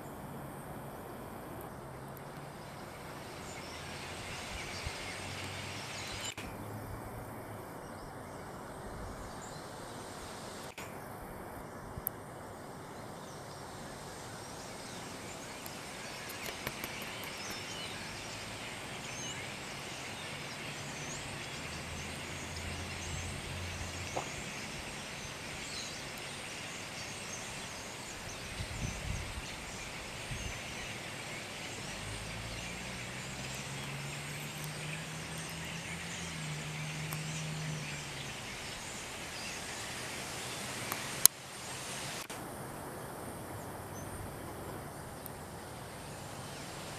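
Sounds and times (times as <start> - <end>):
flock of birds chirping: 0.0 - 46.9.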